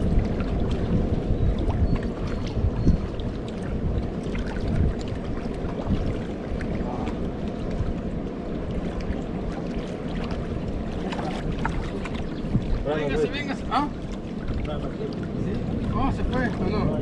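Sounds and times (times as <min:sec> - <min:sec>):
water lapping against rocks: 0:00.0 - 0:17.0
wind rumbling on microphone: 0:00.0 - 0:17.0.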